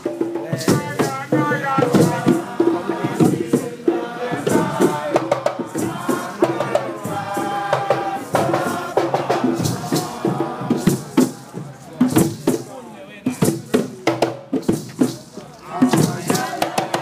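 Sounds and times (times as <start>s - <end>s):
group of voices singing: 0.0s - 12.8s, 14.9s - 17.0s
hand drums: 0.0s - 17.0s.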